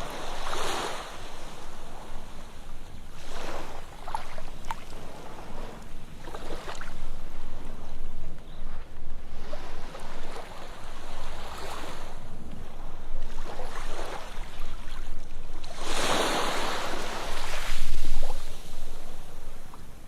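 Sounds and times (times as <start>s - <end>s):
waves washing onto sandy beach: 0.0s - 7.8s, 9.2s - 20.0s.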